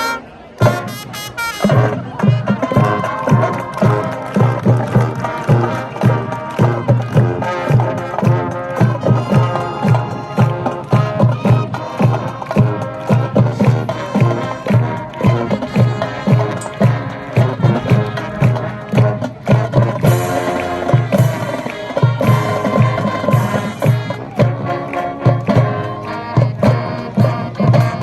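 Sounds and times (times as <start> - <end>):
brass and woodwind chords: 0.0 - 28.0.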